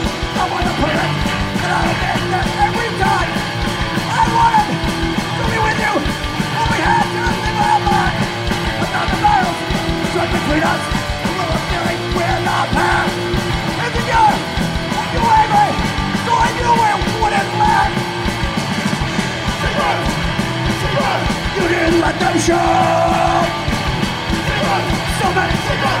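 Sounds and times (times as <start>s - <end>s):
shouted voices: 0.0s - 18.0s, 19.4s - 26.0s
punk band playing live: 0.0s - 26.0s.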